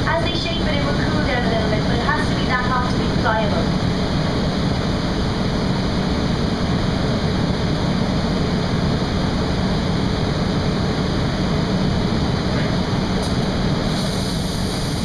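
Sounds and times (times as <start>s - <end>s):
furnace roaring: 0.0s - 15.0s
low steady hum: 0.0s - 15.0s.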